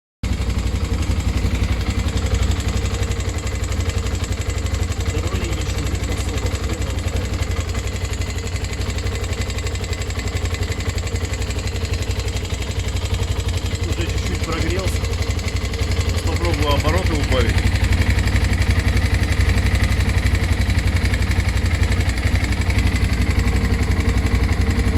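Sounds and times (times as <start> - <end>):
engine idling: 0.2 - 24.9.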